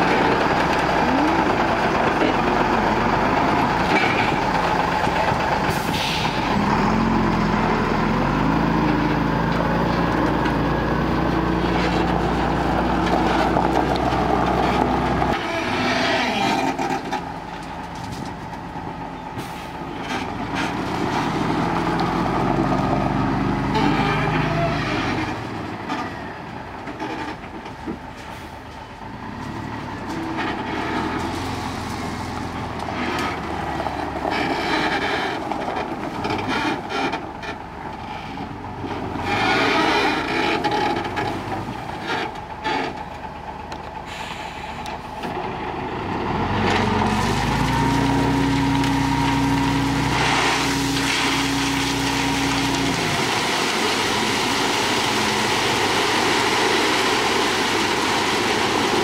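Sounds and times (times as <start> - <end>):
diesel truck engine revving: 0.0 - 16.4, 20.3 - 25.9, 29.0 - 59.0.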